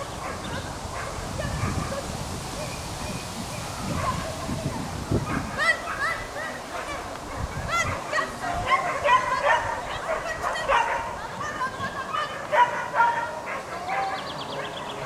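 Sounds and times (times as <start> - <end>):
dog yipping: 0.2 - 11.2, 12.1 - 14.7.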